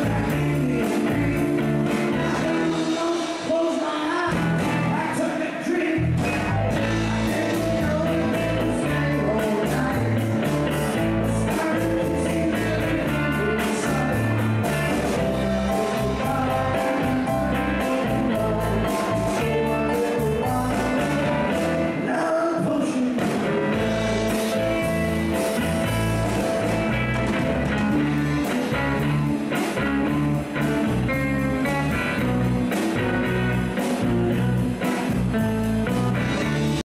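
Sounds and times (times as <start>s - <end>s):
live band playing blues: 0.0s - 36.8s.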